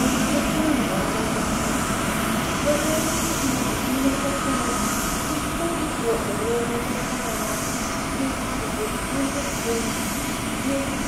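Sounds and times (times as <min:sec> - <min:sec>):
jet engine rumble and hiss: 0:00.0 - 0:11.0.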